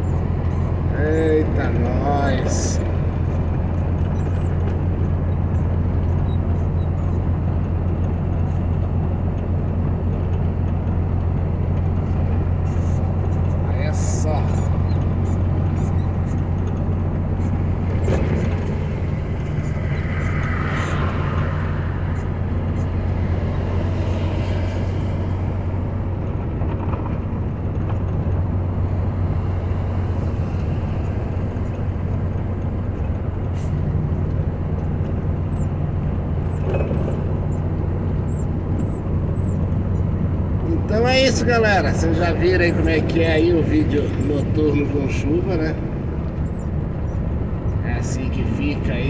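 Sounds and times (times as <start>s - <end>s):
engine drone in vehicle cabin: 0.0s - 49.0s
road and rain noise: 0.0s - 49.0s.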